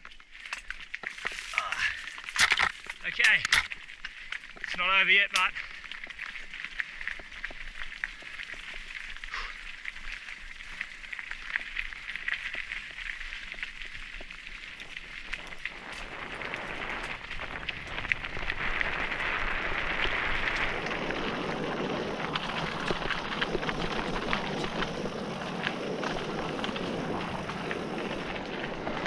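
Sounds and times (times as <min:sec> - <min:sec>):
bike tyres rolling over gravel: 0:00.0 - 0:29.0
stones and bike rattling: 0:00.0 - 0:29.0.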